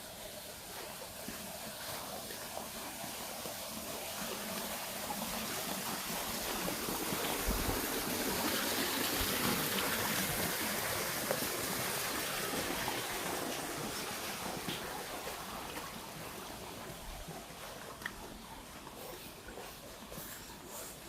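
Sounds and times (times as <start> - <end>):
rushing stream water: 0.0 - 21.0.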